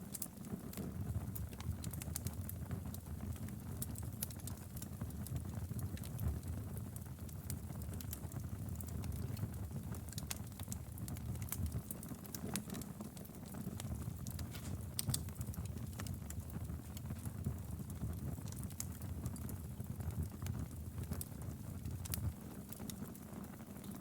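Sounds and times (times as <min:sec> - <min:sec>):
firewood crackling and popping: 0:00.1 - 0:24.0
fire flames rumbling: 0:00.4 - 0:24.0.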